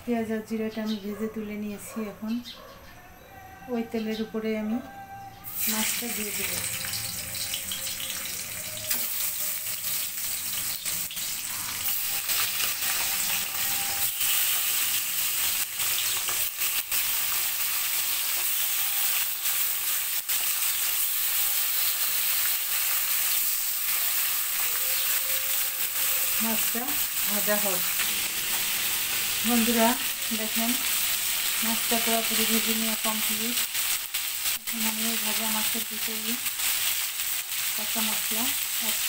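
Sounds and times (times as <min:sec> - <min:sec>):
fish sizzling in hot oil: 0:05.4 - 0:39.0.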